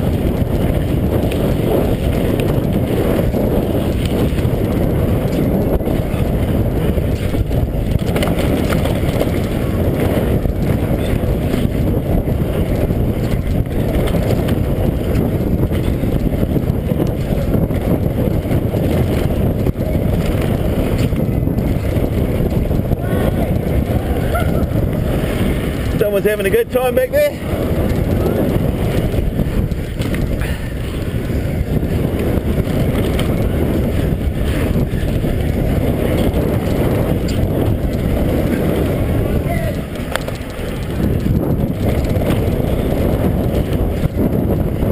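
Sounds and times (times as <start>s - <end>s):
bike knocking over bumps: 0.0s - 22.9s, 27.8s - 44.9s
tyres rumbling over dirt trail: 0.0s - 44.9s
wind rushing on microphone: 0.0s - 44.9s.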